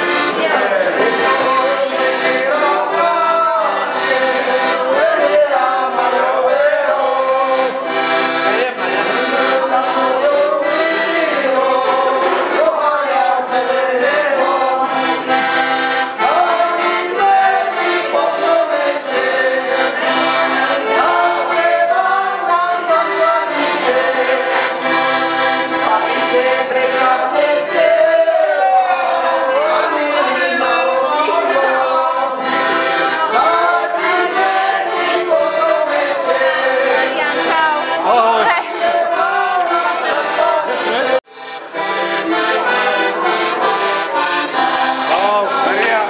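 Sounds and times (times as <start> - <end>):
people singing along: 0.0 - 41.2, 42.7 - 46.0
piano accordion playing: 0.0 - 46.0.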